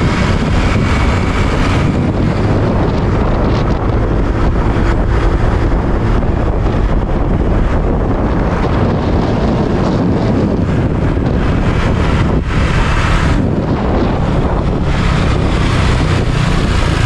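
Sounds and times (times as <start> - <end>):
scooter engine running: 0.0 - 17.0
wind buffeting on microphone: 0.0 - 17.0.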